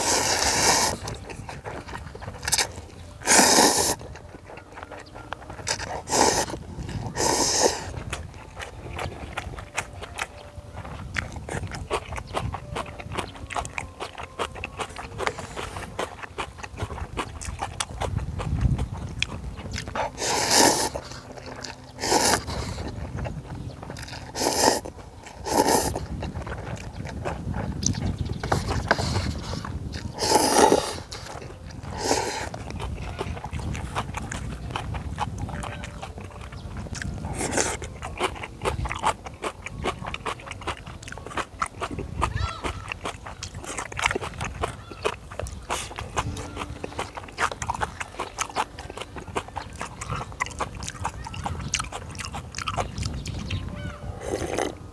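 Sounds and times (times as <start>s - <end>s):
slurping noodles: 0.0s - 4.2s, 5.0s - 9.4s, 10.2s - 23.2s, 23.9s - 36.1s, 36.8s - 53.5s, 54.2s - 54.9s
person chewing: 0.0s - 54.9s.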